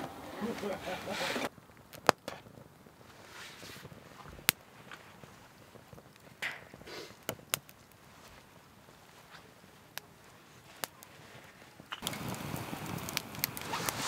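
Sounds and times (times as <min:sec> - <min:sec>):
fire crackling and popping: 0:00.0 - 0:14.0
soft rush of noise: 0:00.0 - 0:14.0.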